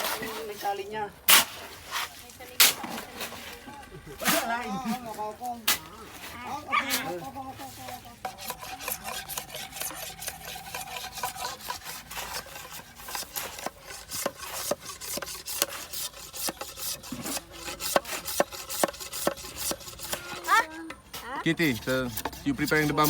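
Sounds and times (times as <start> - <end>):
blade scraping and chopping wood: 0.0 - 23.0.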